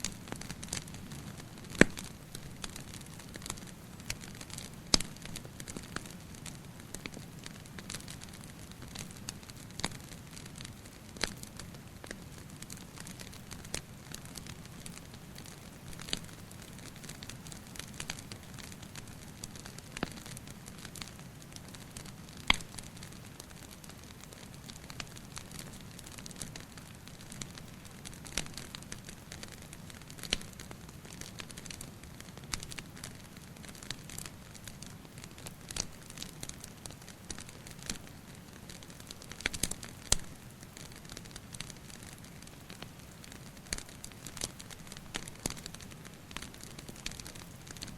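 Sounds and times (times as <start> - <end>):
steady low hiss: 0.0 - 47.9
wood fire crackling and popping: 0.0 - 47.9.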